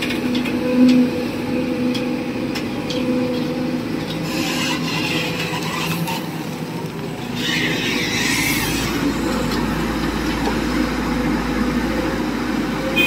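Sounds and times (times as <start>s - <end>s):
excavator engine drone: 0.0s - 13.0s.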